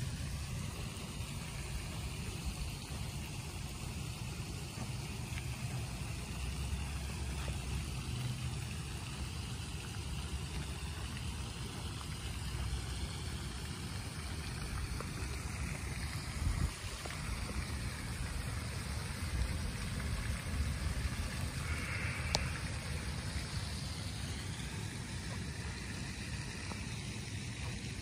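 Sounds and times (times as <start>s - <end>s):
rain falling on a pond: 0.0s - 28.0s.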